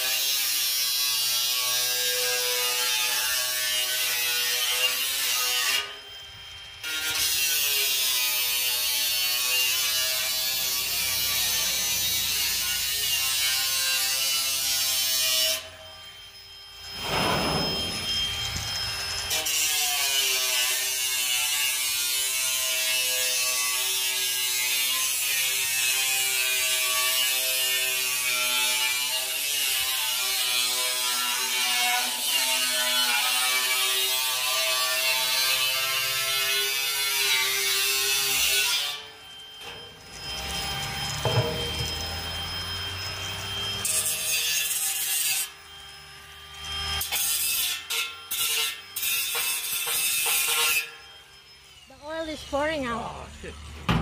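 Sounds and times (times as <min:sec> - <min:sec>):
angle grinder cutting metal: 0:00.0 - 0:54.0.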